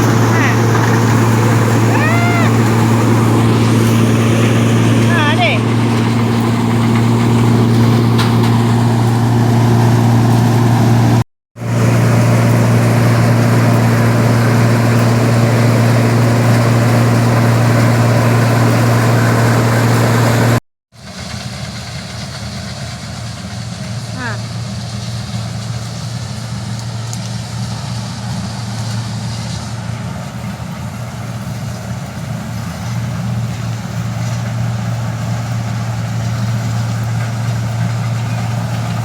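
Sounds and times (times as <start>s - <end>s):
combine harvester engine drone: 0.0s - 39.0s.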